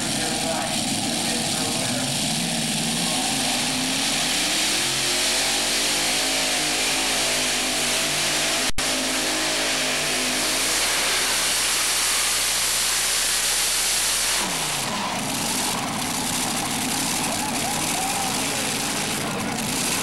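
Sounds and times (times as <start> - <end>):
pulling tractor engines roaring: 0.0 - 20.0.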